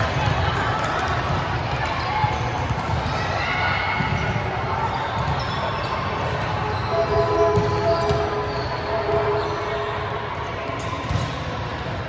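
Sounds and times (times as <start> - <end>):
echoing rumble of people: 0.0 - 12.0.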